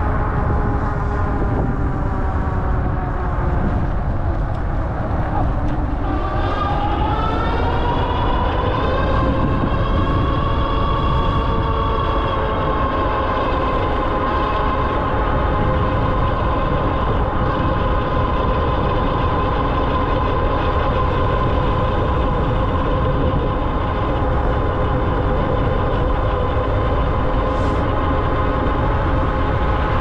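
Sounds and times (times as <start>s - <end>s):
wind rumble on microphone: 0.0s - 30.0s
electric motor whine: 5.2s - 30.0s.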